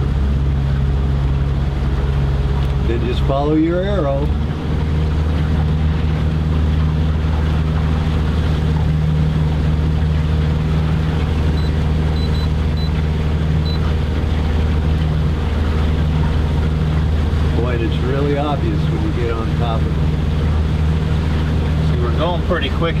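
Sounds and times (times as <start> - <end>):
outboard motor humming: 0.0 - 23.0
water noise: 0.0 - 23.0.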